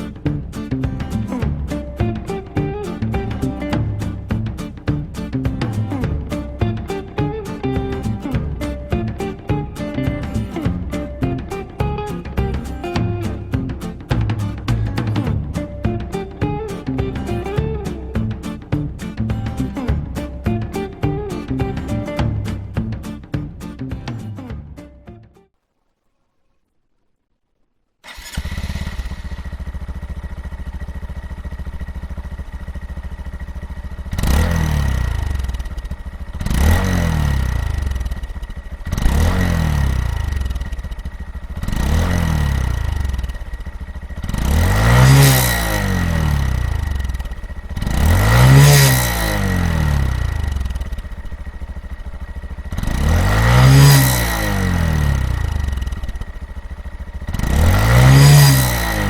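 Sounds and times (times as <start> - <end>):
motorcycle engine idling and revving: 0.0 - 25.6, 28.0 - 59.0.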